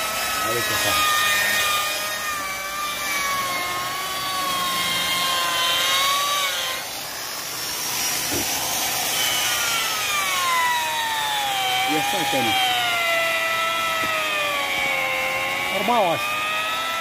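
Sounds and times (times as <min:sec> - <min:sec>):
electric car polisher whining: 0:00.0 - 0:17.0.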